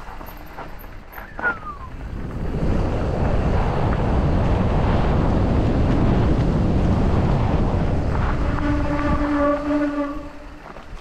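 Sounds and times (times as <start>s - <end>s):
tyres rolling over dirt trail: 0.0s - 11.0s
wind rushing over microphone: 0.0s - 11.0s.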